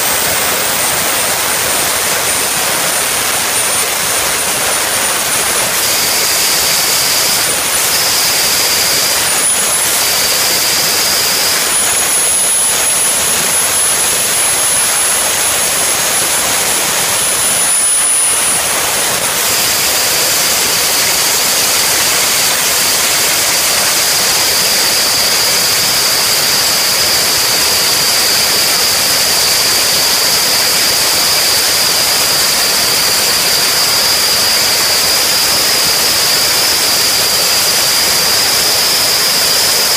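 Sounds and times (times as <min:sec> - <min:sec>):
jet engine rushing with turbine whine: 0:00.0 - 0:39.9.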